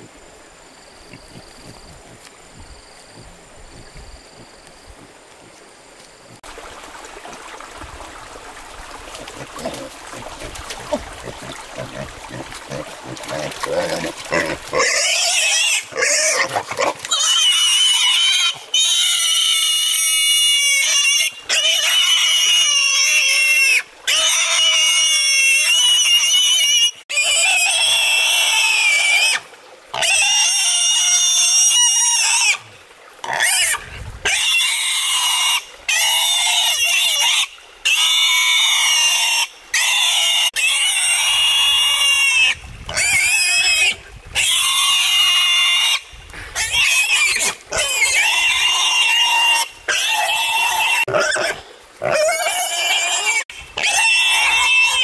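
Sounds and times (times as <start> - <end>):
pig squealing: 9.4 - 32.6, 33.2 - 46.0, 46.6 - 55.0.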